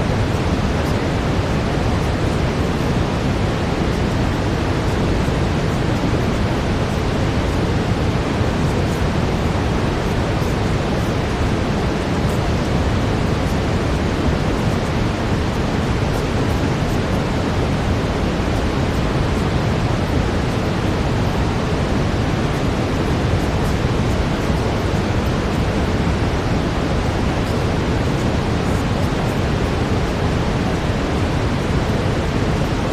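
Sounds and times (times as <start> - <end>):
brown noise hiss: 0.0 - 32.9.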